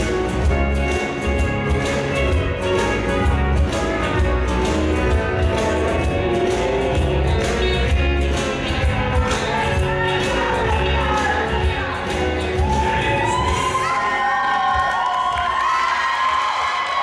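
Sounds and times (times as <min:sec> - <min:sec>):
dance music with steady beat: 0:00.0 - 0:14.9.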